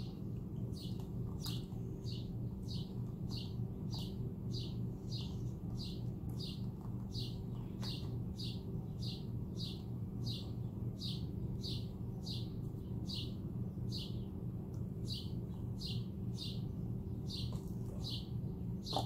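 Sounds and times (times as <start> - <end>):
bird chirping: 0.0 - 14.4, 15.0 - 19.0
steady low hum: 0.0 - 19.0.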